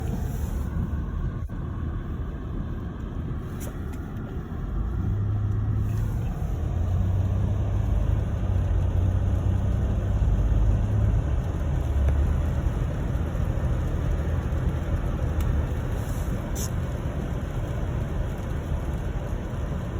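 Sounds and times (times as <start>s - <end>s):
car engine and road rumble: 0.0s - 19.9s.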